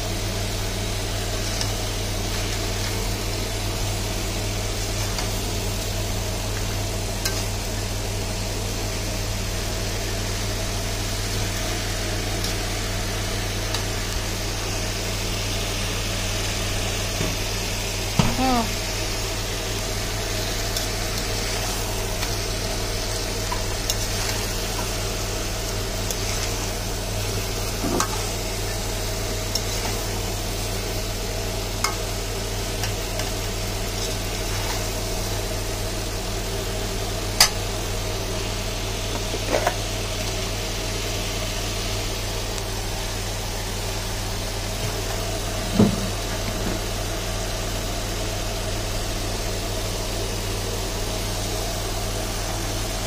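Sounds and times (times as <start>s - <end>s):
food sizzling in a wok: 0.0s - 53.0s
steady low hum: 0.0s - 53.0s.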